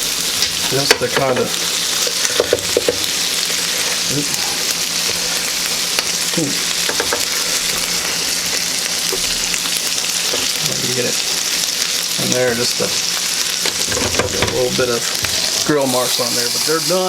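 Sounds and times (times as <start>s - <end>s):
burger patties sizzling on a grill: 0.0s - 17.0s.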